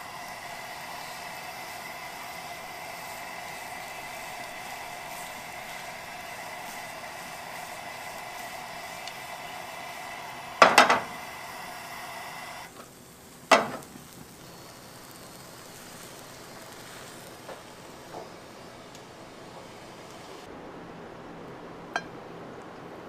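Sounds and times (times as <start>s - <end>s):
omelette sizzling in a pan: 0.0s - 20.5s.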